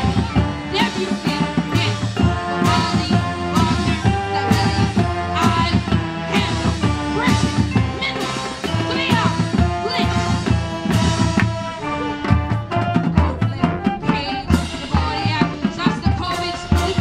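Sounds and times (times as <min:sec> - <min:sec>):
marching band playing: 0:00.0 - 0:17.0
rapid drum strokes: 0:00.0 - 0:17.0.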